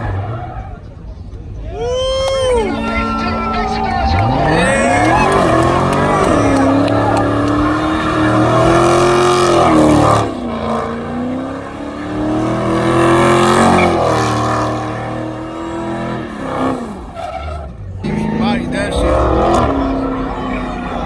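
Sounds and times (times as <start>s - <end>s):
car engine revving hard: 0.0s - 1.1s, 2.4s - 21.0s.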